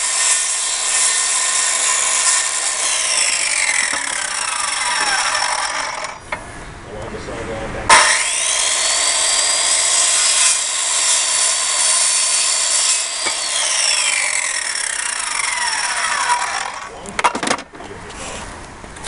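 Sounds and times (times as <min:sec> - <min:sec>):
circular saw cutting wood: 0:00.0 - 0:06.2, 0:07.9 - 0:17.0.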